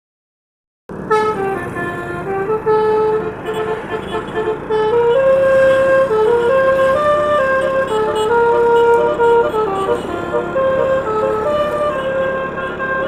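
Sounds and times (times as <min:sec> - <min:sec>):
multi-tone vehicle horn tune: 0:00.9 - 0:13.0.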